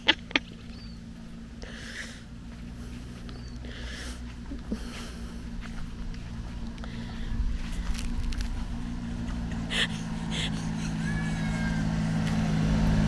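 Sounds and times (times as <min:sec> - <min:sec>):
small truck engine running: 0:00.0 - 0:13.0.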